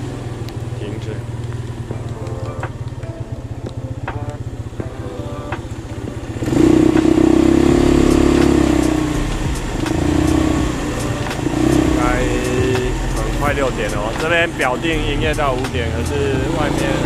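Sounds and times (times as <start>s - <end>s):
scooter rumbling: 0.0s - 17.0s.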